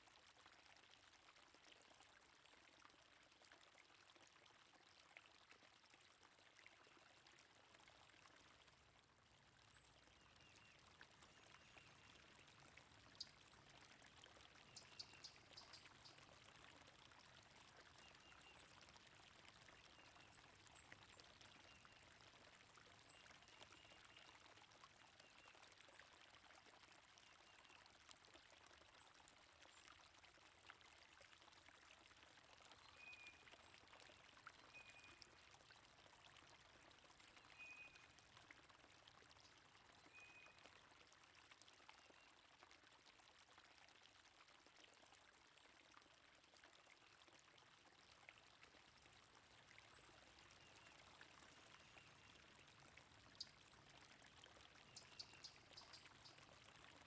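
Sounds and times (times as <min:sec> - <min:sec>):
stream water flowing: 0:00.2 - 0:57.0.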